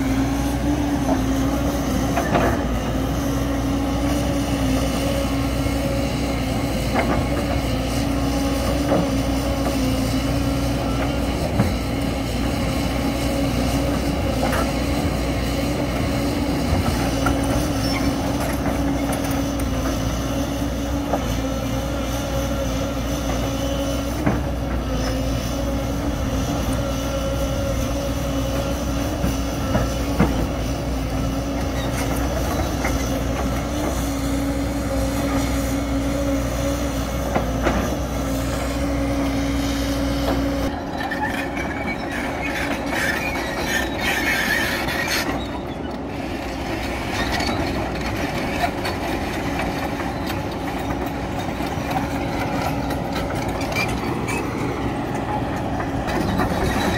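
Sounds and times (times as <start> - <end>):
diesel engines running: 0.0 - 56.9
excavator clanks and knocks: 0.2 - 39.4, 40.1 - 56.9.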